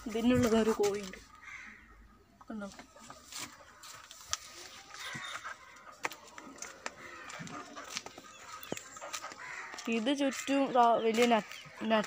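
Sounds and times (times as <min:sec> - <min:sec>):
chickens clucking: 0:01.8 - 0:12.0.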